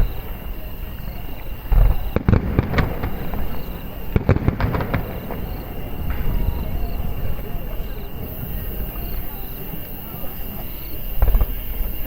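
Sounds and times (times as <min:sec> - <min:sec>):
firework crackling pops: 0:00.0 - 0:12.0
firework boom: 0:01.6 - 0:11.9.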